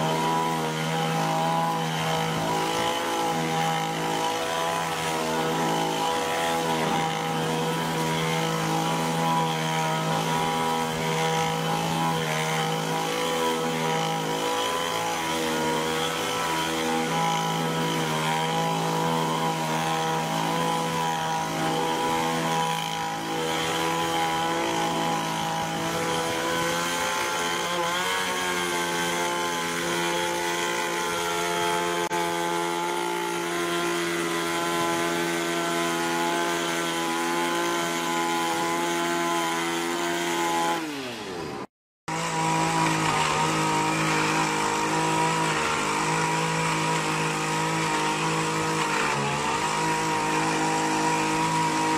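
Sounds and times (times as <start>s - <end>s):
hedge trimmer engine revving: 0.0s - 51.9s.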